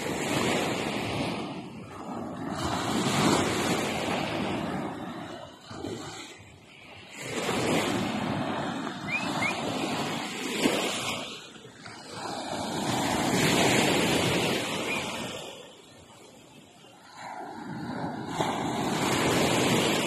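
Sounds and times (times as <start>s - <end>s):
waves washing in and out: 0.0s - 20.0s.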